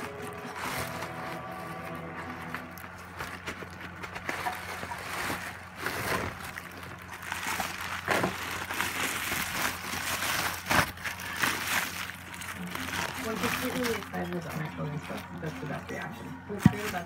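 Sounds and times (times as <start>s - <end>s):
bubble wrap crinkling: 0.0s - 17.0s
steady low hum: 0.0s - 17.0s.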